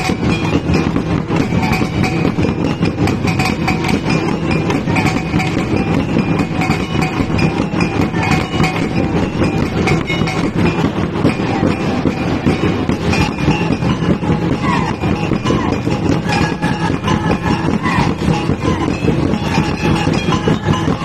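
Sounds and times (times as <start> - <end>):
large drum strokes: 0.0 - 21.0
small gongs ringing: 0.0 - 21.0.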